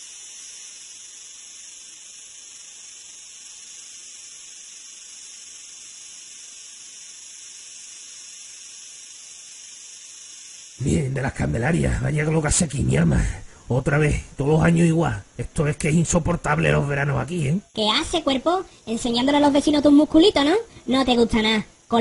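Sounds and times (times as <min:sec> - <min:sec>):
steady high-pitched hiss: 0:00.0 - 0:22.0.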